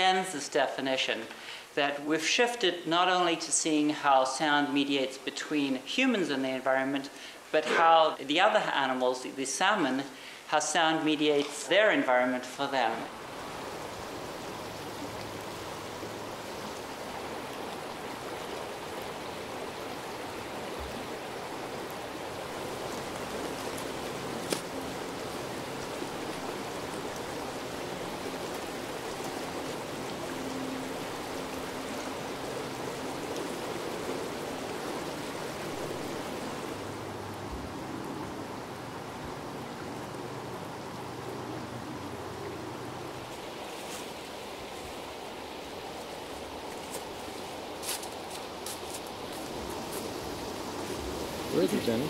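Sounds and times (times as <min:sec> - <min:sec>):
creek water over stones: 0:00.0 - 0:52.0.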